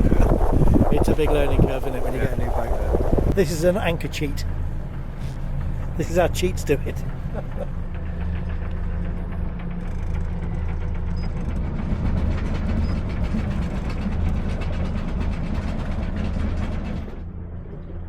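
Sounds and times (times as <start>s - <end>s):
boat engine hum: 0.0s - 18.0s.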